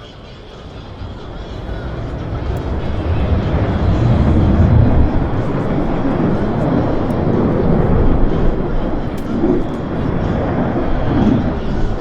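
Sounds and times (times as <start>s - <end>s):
airplane engine noise: 0.0s - 12.0s.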